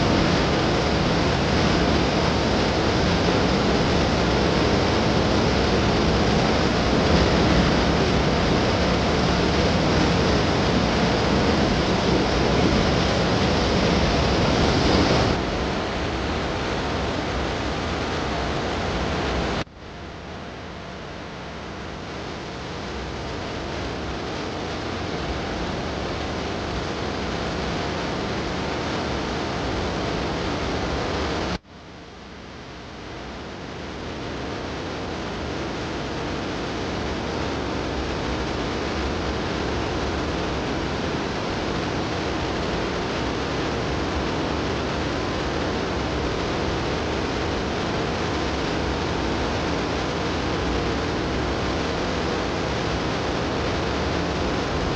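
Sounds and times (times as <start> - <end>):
steady rushing noise: 0.0 - 54.9.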